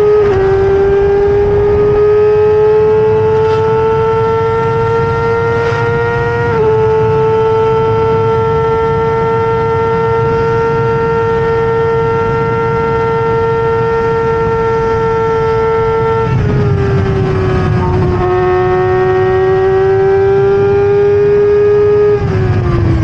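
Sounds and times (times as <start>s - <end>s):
engine running at high revs: 0.0s - 23.0s.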